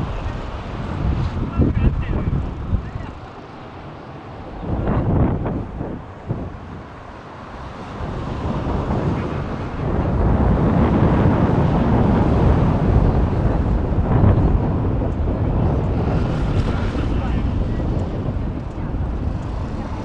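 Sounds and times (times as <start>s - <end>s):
aircraft engine noise: 0.0s - 20.0s
wind buffeting microphone: 0.0s - 20.0s.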